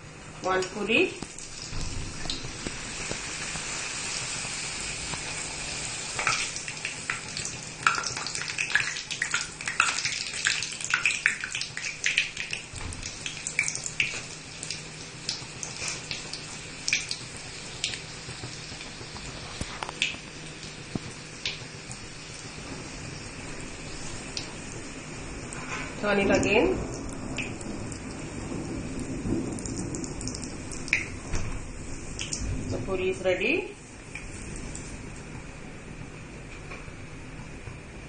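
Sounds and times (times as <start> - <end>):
bread deep-frying in hot oil: 0.0 - 38.0.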